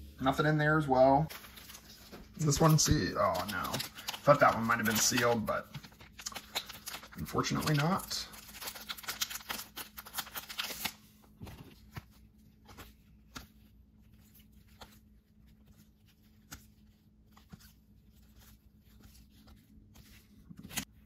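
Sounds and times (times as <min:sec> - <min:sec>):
cards being flipped through: 0:01.2 - 0:21.0.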